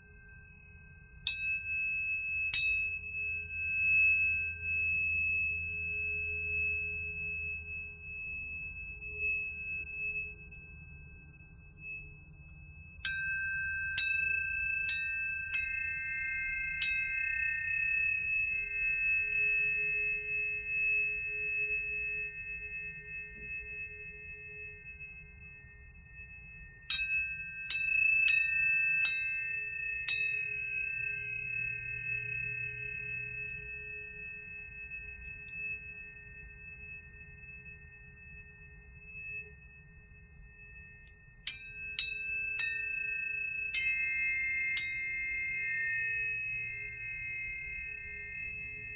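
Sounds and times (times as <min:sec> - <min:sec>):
tuning forks struck and ringing: 0:00.0 - 0:48.9.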